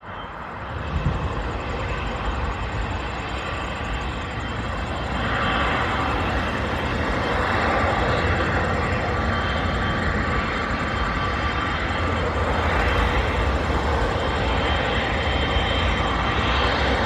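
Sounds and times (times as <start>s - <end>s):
jet engines roaring: 0.0s - 17.0s
wind rumbling on microphone: 0.2s - 17.0s.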